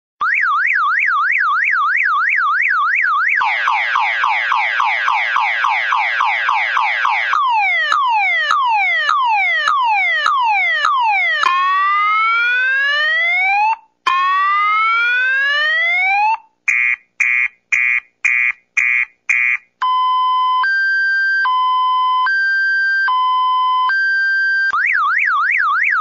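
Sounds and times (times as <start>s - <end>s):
car alarm siren: 0.2s - 26.0s.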